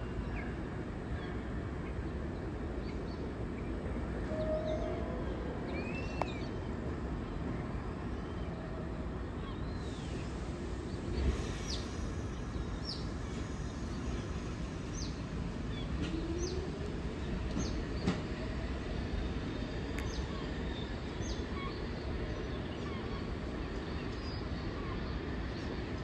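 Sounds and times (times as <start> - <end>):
train rumbling at station: 0.0 - 26.0.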